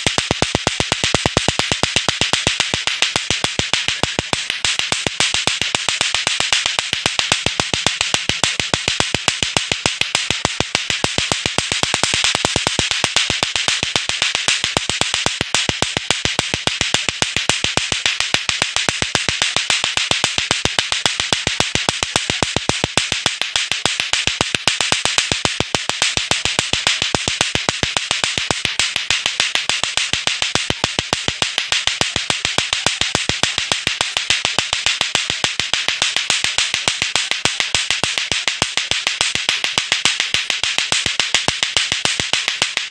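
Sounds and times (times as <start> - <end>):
plastic balls clacking together: 0.0 - 42.9.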